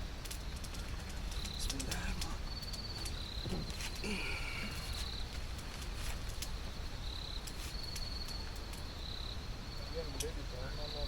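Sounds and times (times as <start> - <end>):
low background rumble: 0.0 - 10.8
insects trilling: 0.0 - 11.0.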